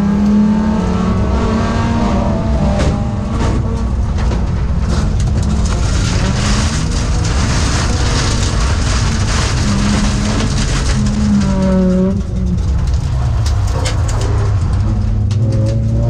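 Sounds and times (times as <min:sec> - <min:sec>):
car engine running hard: 0:00.0 - 0:16.0
crackling spatter: 0:03.0 - 0:16.0.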